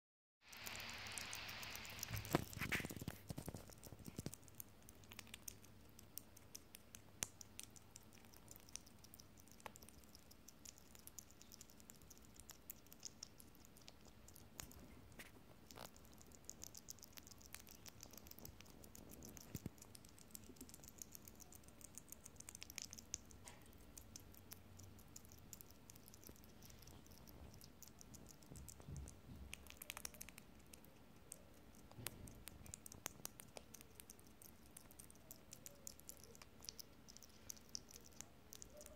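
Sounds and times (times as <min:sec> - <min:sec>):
hedgehog chewing and smacking: 0:00.4 - 0:38.9.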